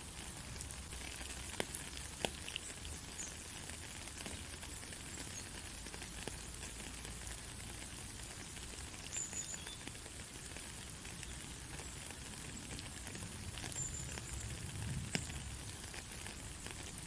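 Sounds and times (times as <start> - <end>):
rain pattering on road: 0.0 - 17.0.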